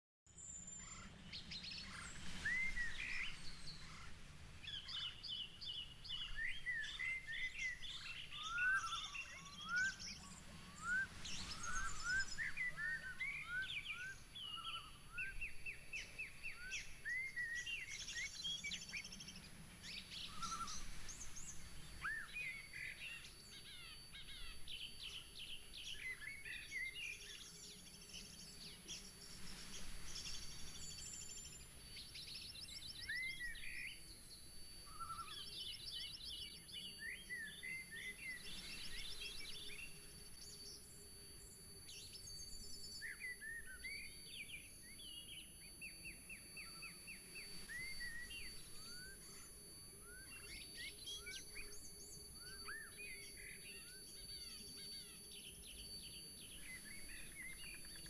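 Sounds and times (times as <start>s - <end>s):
songbirds chirping and singing: 0.4s - 58.0s.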